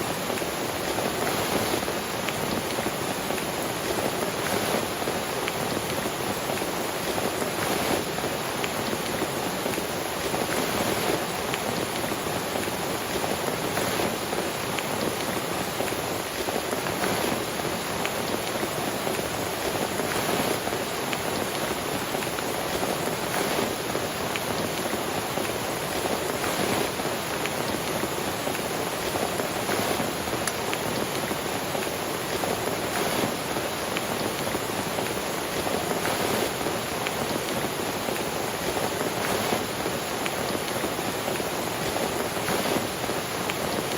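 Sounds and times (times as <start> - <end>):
rain falling on a tent: 0.0 - 43.9.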